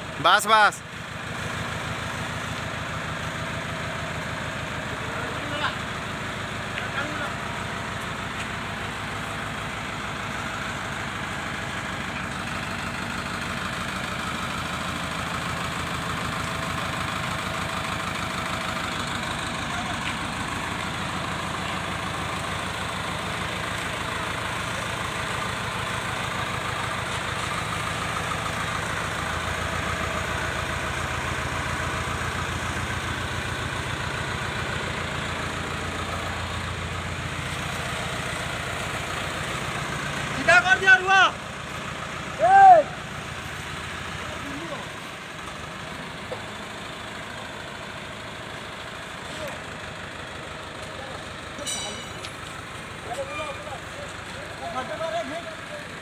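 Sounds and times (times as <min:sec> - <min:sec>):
diesel engine throbbing: 0:00.0 - 0:56.0.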